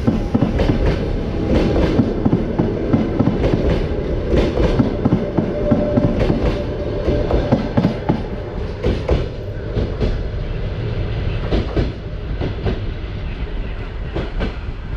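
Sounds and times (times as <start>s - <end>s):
train wheels clacking over rail joints: 0.0s - 10.2s, 11.4s - 12.8s, 14.1s - 14.6s
train rumble: 0.0s - 14.9s.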